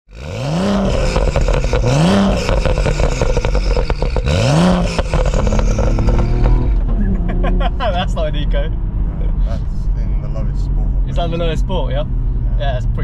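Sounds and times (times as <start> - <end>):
car engine revving: 0.1 - 13.0
exhaust crackle: 0.1 - 13.0.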